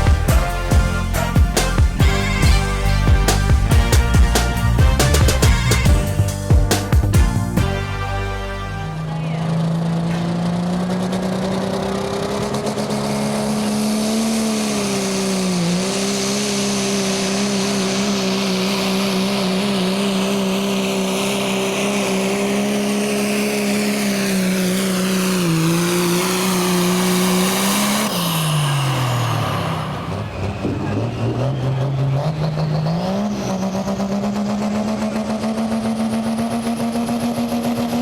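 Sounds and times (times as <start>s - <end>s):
diesel truck engine at high revs: 0.0s - 38.0s.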